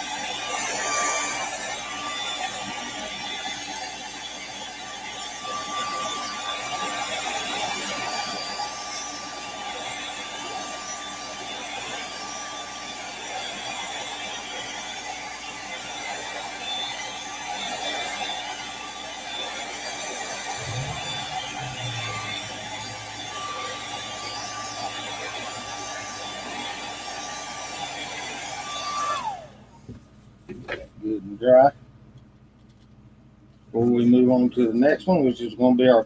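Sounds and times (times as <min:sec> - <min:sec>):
hair dryer blowing: 0:00.0 - 0:29.9.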